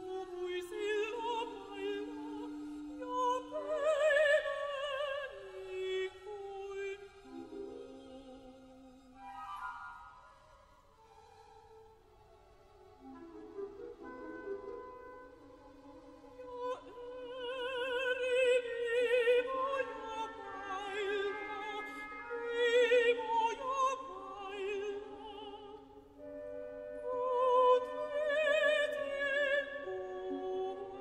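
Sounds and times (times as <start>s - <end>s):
woman singing classical song: 0.0s - 10.2s, 13.0s - 31.0s
orchestral accompaniment: 0.4s - 31.0s.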